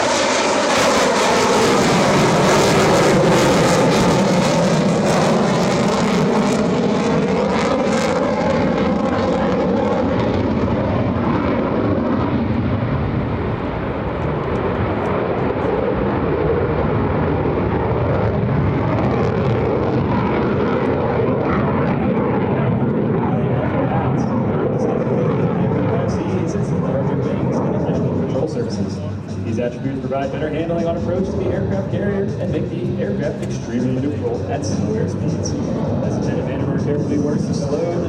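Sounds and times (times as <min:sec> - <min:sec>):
jet engine deep rumble: 0:00.0 - 0:38.0.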